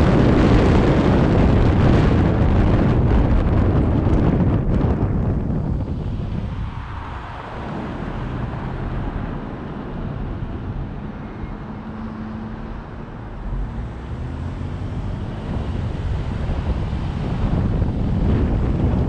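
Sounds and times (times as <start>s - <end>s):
road and traffic rumble: 0.0s - 19.0s
wind buffeting microphone: 0.0s - 19.0s.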